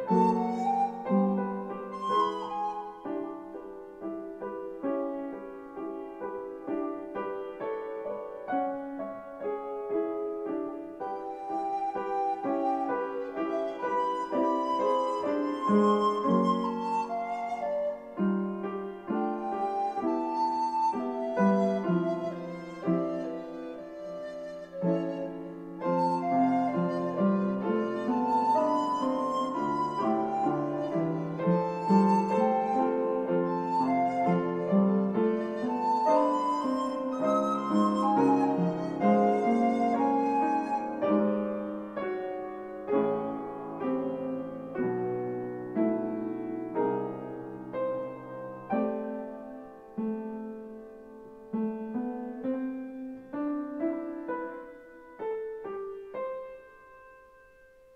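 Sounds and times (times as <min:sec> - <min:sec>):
piano accompaniment: 0:00.0 - 0:57.9.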